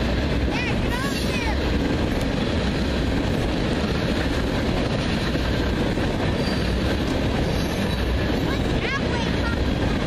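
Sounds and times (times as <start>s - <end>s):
freight train wheels rumbling: 0.0s - 10.0s.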